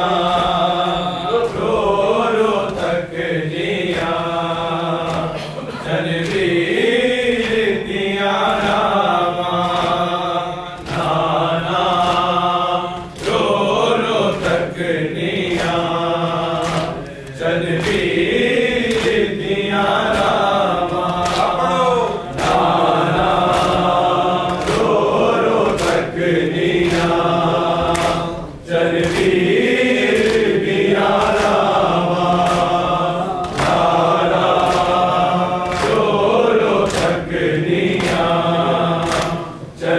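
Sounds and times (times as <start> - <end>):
men chanting a lament: 0.0 - 39.9
rhythmic chest-beating strikes: 0.0 - 39.9.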